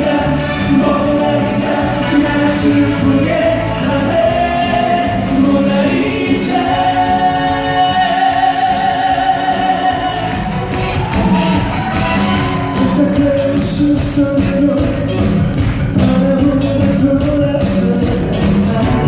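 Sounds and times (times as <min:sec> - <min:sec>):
live band music: 0:00.0 - 0:19.0
person singing: 0:00.0 - 0:19.0.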